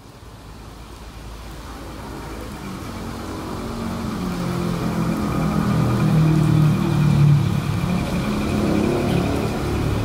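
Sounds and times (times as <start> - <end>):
diesel locomotive engine hum: 1.6 - 10.0.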